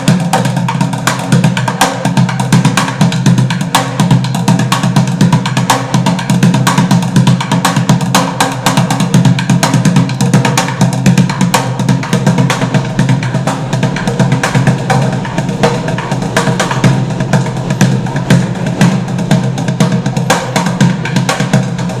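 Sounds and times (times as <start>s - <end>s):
drums and hand percussion: 0.0s - 22.0s.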